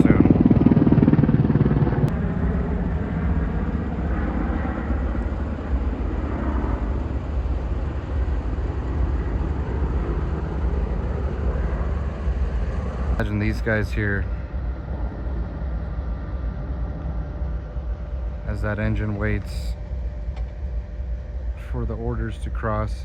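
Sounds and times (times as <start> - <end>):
engine rumbling: 0.0 - 23.0
hum: 0.0 - 23.0.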